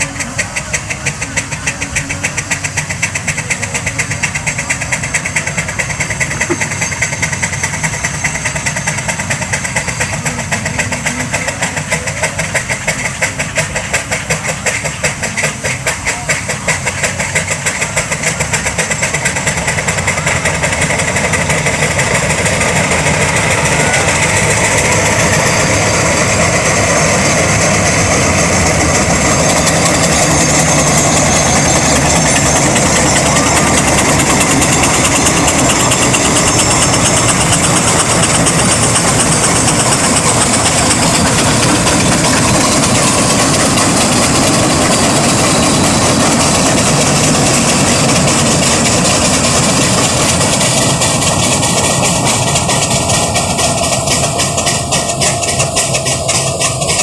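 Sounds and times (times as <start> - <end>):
steam engine exhaust chuffing: 0.0 - 57.0.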